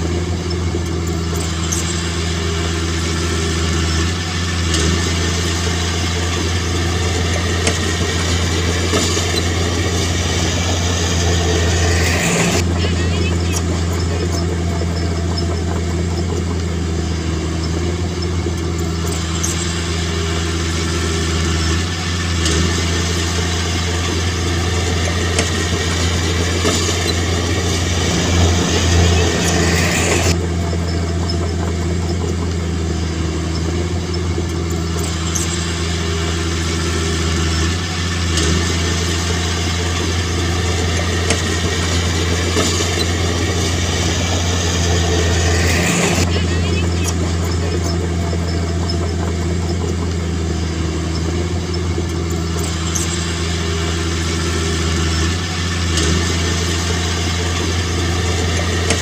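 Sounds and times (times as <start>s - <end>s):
rising whine: 0.0s - 31.8s, 38.6s - 55.5s
diesel engine running: 0.0s - 59.0s.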